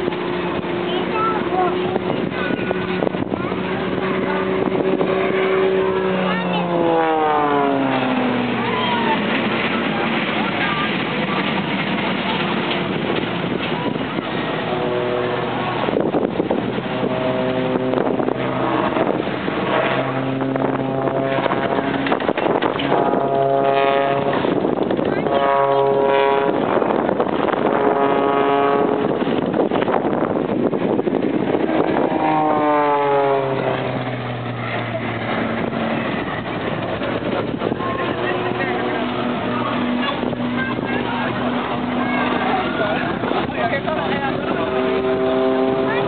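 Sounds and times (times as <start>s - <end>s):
engine running steadily: 0.0s - 46.0s
propeller aircraft flying past: 0.0s - 46.0s
wind buffeting microphone: 0.0s - 46.0s.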